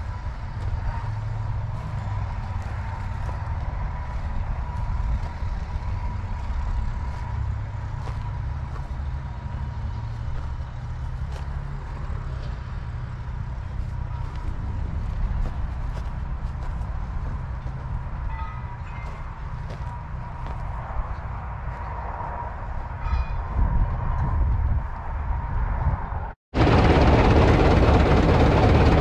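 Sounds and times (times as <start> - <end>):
low engine rumble: 0.0 - 23.0, 23.6 - 29.0.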